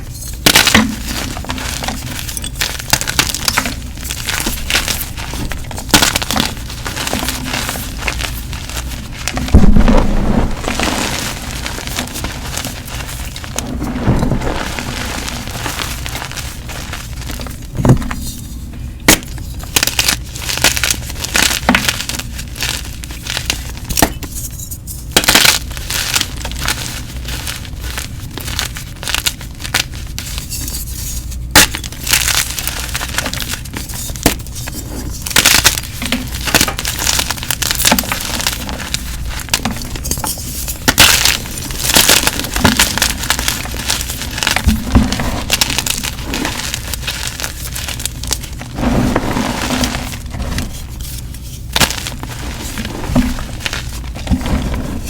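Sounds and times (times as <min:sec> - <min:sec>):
chalk being crushed: 0:00.0 - 0:55.0.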